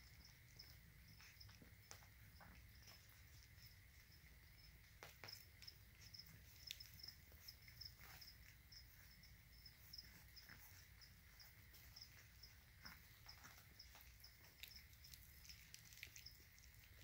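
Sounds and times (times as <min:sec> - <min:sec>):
crickets chirping: 0:00.0 - 0:17.0
puppies eating: 0:00.0 - 0:17.0.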